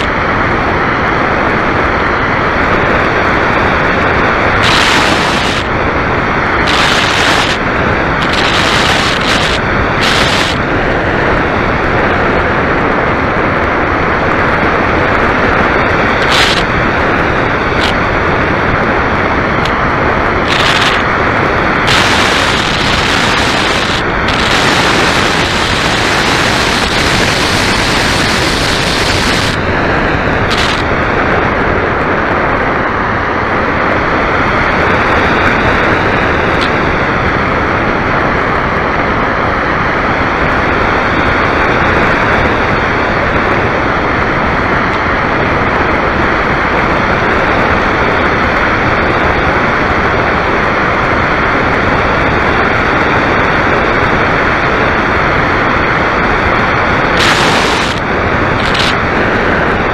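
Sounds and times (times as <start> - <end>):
faint high whine: 0.0 - 59.9
rush of airflow over camera: 0.0 - 59.9.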